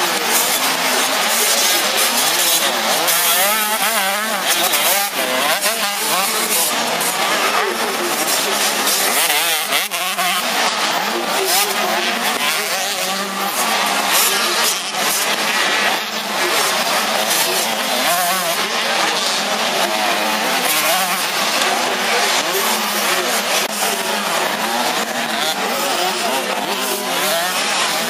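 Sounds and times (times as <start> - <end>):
motocross bikes racing: 0.0 - 28.0.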